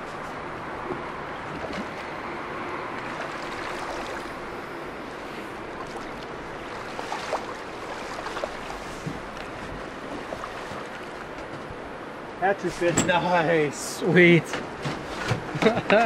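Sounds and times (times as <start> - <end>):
river water rushing: 0.1 - 14.3.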